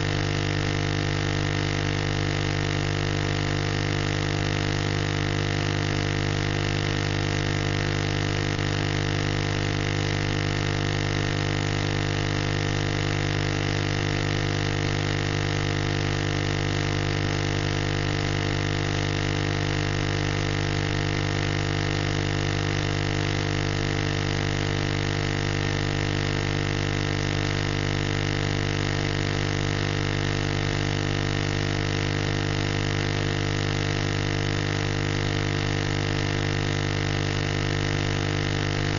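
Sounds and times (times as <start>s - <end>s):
analog tv signal buzz and hiss: 0.0s - 38.9s.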